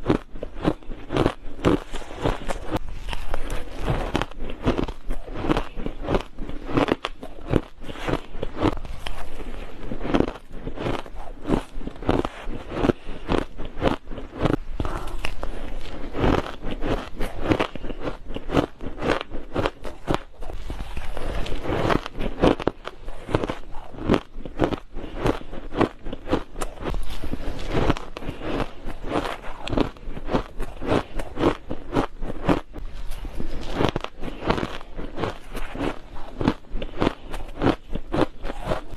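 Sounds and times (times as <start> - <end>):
ice crunching between teeth: 0.0 - 38.9.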